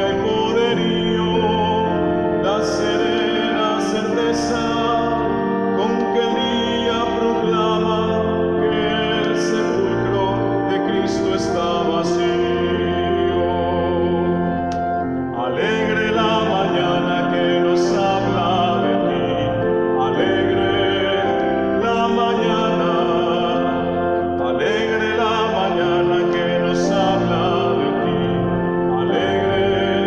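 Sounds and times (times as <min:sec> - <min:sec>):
man singing hymn with vibrato: 0:00.0 - 0:30.0
organ chords: 0:00.0 - 0:30.0.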